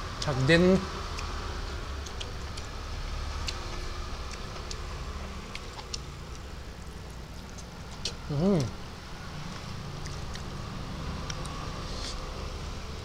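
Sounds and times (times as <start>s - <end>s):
person chewing food: 1.1s - 12.3s.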